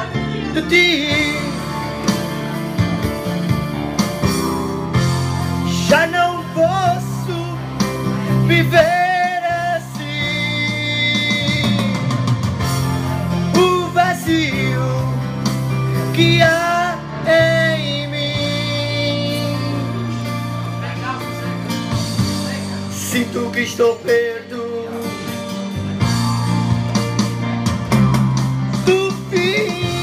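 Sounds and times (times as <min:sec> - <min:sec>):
man singing a ballad: 0:00.0 - 0:02.9, 0:05.6 - 0:26.2, 0:28.7 - 0:30.0
instrumental backing music: 0:00.0 - 0:30.0.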